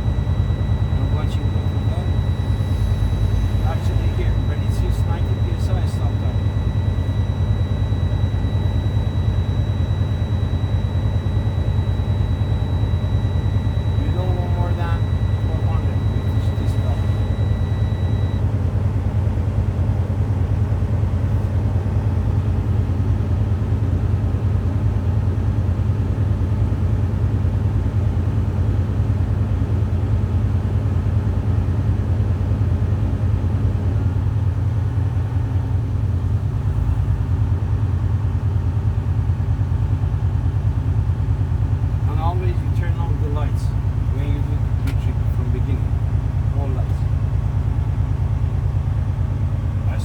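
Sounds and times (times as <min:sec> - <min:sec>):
diesel truck engine idling: 0:00.0 - 0:50.0.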